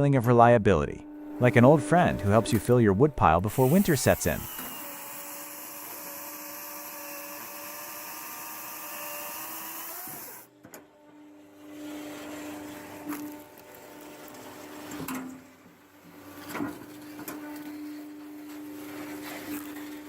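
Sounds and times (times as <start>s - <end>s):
firewood processor motor whine: 1.0s - 20.0s.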